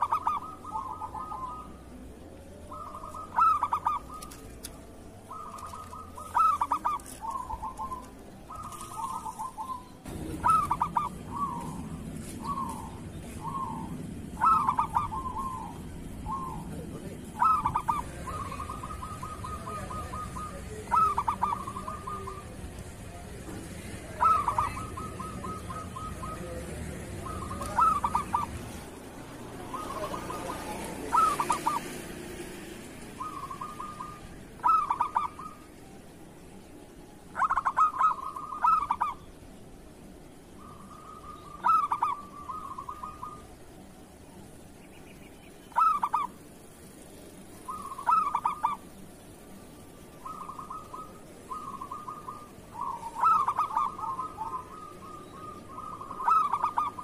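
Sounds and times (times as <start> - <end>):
dove cooing: 0.0 - 39.3, 40.5 - 44.6, 45.6 - 57.0.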